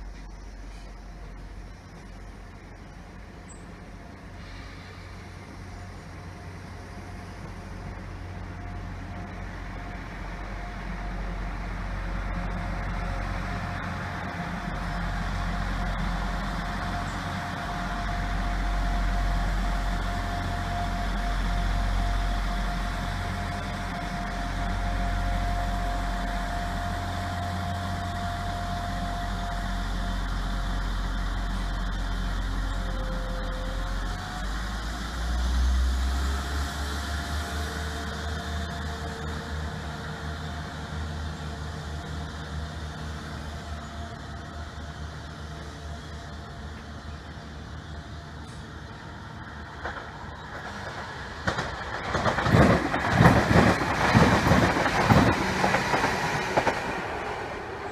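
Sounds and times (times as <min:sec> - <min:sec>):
train rumbling: 0:00.0 - 0:57.9.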